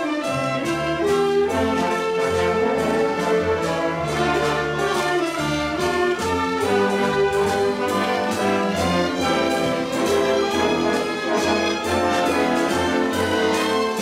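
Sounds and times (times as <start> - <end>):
orchestra playing a waltz: 0.0 - 14.0
trumpets and french horns: 0.0 - 14.0.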